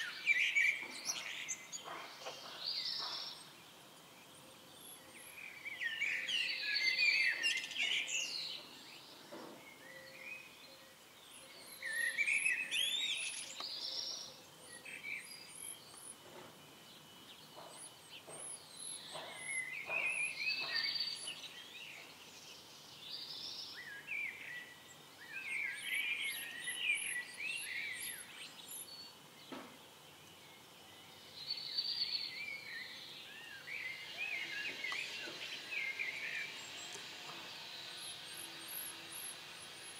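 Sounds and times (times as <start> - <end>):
songbirds warbling chirps: 0.0 - 39.9.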